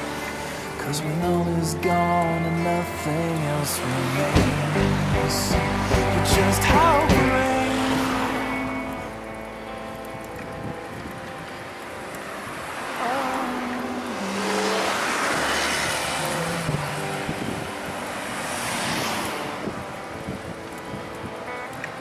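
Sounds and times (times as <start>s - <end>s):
cars passing close by: 0.0s - 22.0s
soft background music: 0.0s - 22.0s.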